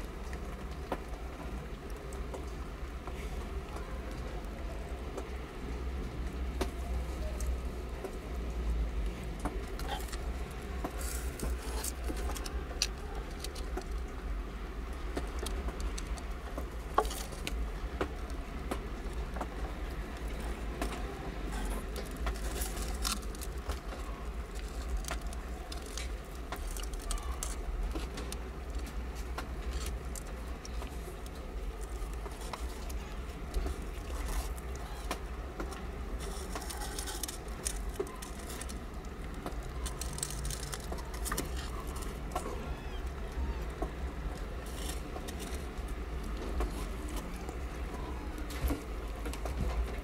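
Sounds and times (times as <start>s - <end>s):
kittens suckling clicks: 7.4s - 50.0s.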